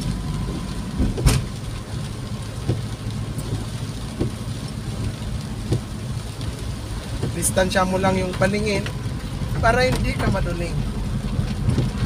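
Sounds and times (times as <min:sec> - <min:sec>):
engine and road rumble: 0:00.0 - 0:12.0
heavy rain on vehicle: 0:00.0 - 0:12.0
windshield wipers sweeping: 0:00.0 - 0:12.0.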